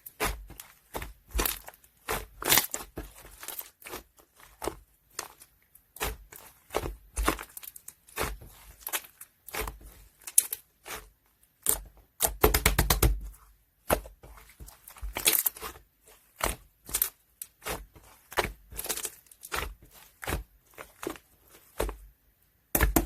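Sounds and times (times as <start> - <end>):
slime squishing with crackling pops: 0.0 - 23.0.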